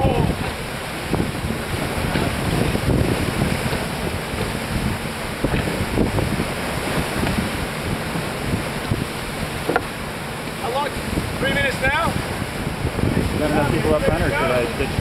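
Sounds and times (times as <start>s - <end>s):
sea water rushing along hull: 0.0s - 15.0s
wind buffeting microphone: 0.0s - 15.0s.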